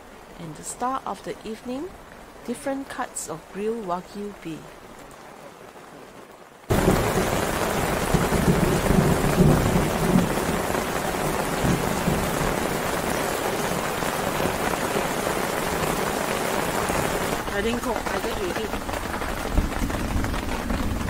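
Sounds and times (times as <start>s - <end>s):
heavy rain on tarp: 0.0s - 21.0s.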